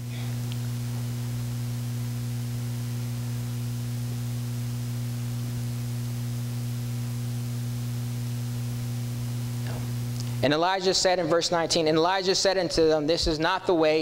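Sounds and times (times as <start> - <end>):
constant hiss: 0.0 - 13.0
electrical mains hum: 0.0 - 14.0.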